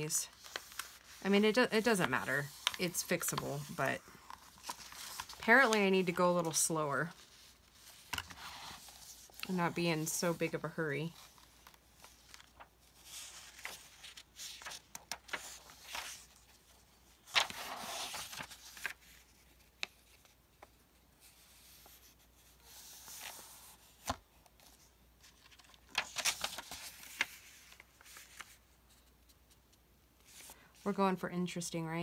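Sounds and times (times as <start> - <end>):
book pages rustling: 0.2 - 30.6.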